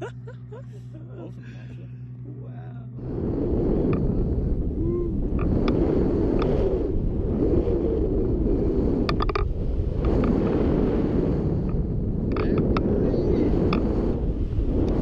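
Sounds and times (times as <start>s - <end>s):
wind rushing over microphone: 2.9s - 15.0s.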